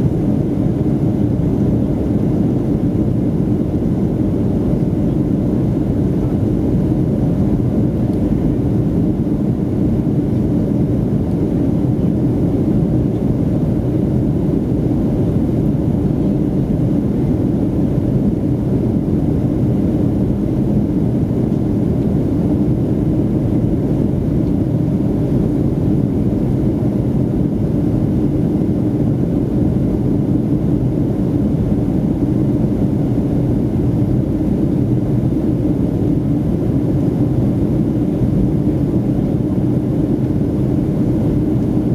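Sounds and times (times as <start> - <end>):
airplane cabin engine rumble: 0.0 - 41.9
faint hum: 0.0 - 41.9.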